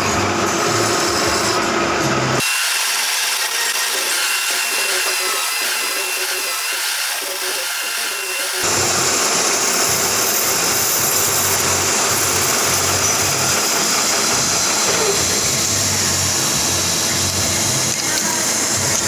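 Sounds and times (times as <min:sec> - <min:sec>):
metal lathe humming: 0:00.0 - 0:19.0.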